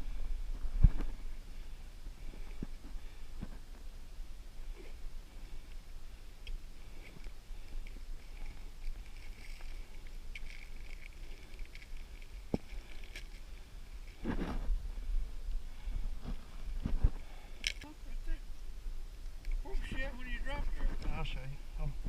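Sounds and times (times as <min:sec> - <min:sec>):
faint rustling: 0:00.0 - 0:22.0.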